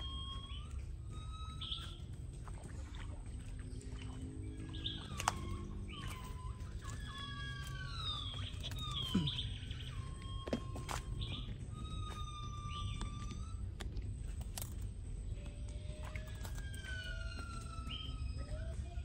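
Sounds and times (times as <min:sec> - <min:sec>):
birds whistling: 0:00.0 - 0:19.0
low background rumble: 0:00.0 - 0:19.0.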